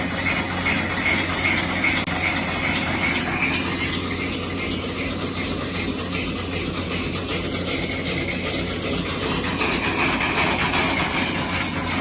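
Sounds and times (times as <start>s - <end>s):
high pulsing scraping: 0.0s - 12.0s
rock saw machine running: 0.0s - 12.0s.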